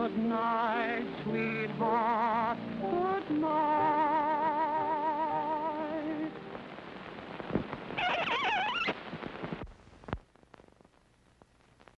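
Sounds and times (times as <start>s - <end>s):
film soundtrack hiss and crackle: 0.0s - 12.0s.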